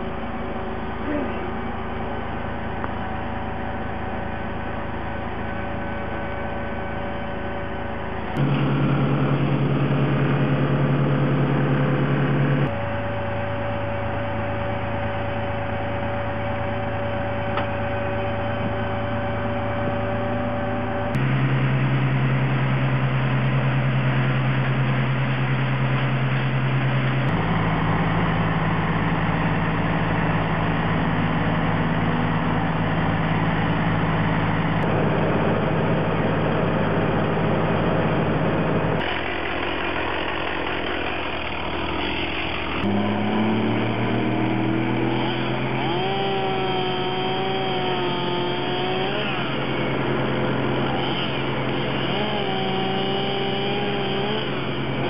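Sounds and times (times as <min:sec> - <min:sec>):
heavy engine running: 0:00.0 - 0:55.0.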